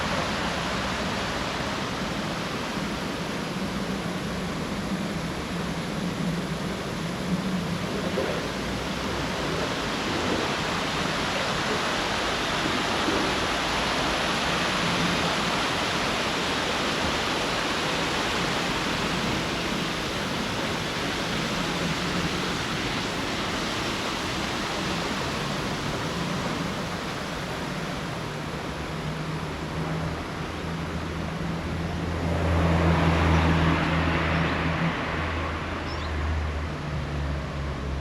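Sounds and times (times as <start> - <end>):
steady outdoor rushing noise: 0.0 - 38.0.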